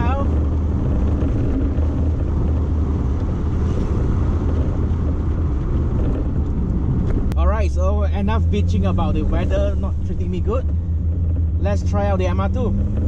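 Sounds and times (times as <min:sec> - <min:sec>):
car engine running while driving: 0:00.0 - 0:13.0
road and tyre noise: 0:00.0 - 0:13.0.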